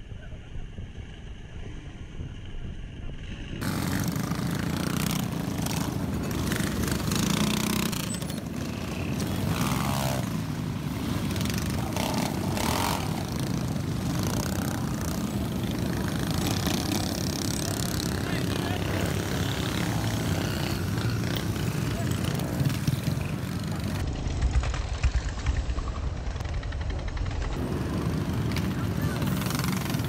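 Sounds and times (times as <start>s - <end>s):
mini-bike engines running: 0.0s - 30.0s.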